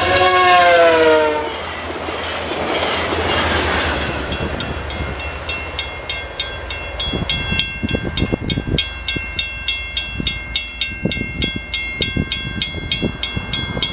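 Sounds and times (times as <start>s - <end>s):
railroad crossing bell ringing: 0.0s - 13.9s.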